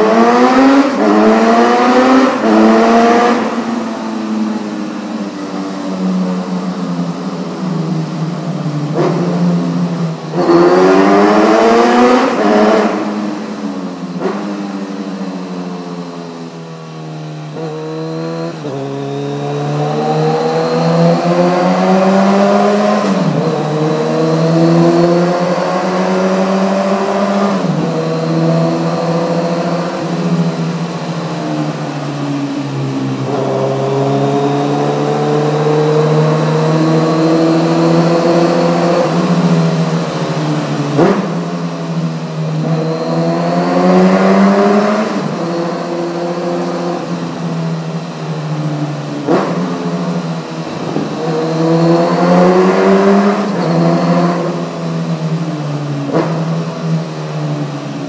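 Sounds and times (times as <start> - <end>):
motorcycle engine revving through gears: 0.0 - 58.0.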